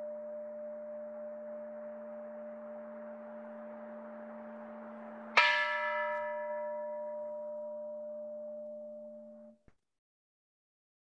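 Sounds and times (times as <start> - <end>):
steady ringing tone: 0.0 - 9.5
temple bell ringing: 0.0 - 9.5.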